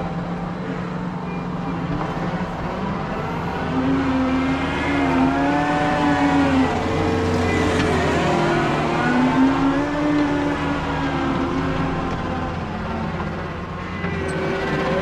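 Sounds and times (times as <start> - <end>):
heavy diesel engine under load: 0.0 - 15.0.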